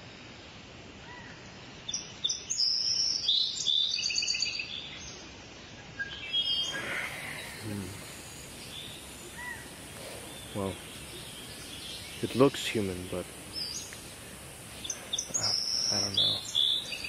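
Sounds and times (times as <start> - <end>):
outdoor background hiss: 0.0 - 17.0
songbird singing: 0.0 - 17.0.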